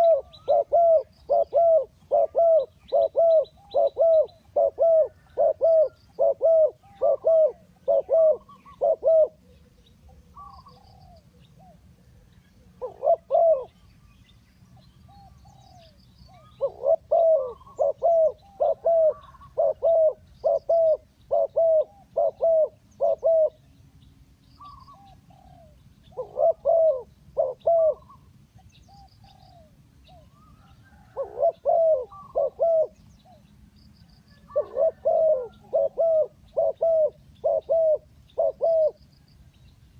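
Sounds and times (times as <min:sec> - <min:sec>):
dove cooing: 0:00.0 - 0:13.9, 0:15.1 - 0:23.6, 0:24.6 - 0:28.3, 0:28.9 - 0:33.5, 0:34.3 - 0:39.0
small birds chirping: 0:00.0 - 0:39.9.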